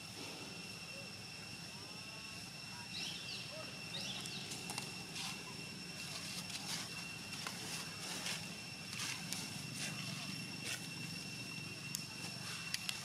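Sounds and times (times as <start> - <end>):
high-pitched two-tone whine: 0.0 - 13.0.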